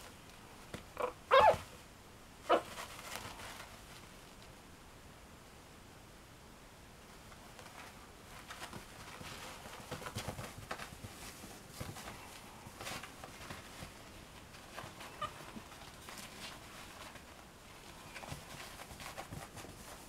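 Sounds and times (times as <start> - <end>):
puppy paws scrabbling on a pad: 0.0 - 4.6, 7.1 - 20.0.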